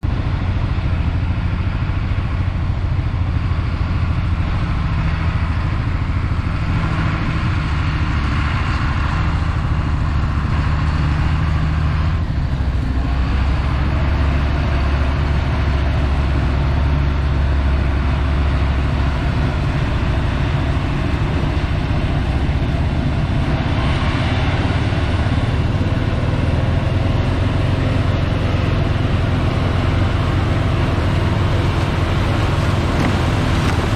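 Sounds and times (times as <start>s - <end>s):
combine harvester diesel engine running: 0.0s - 33.9s.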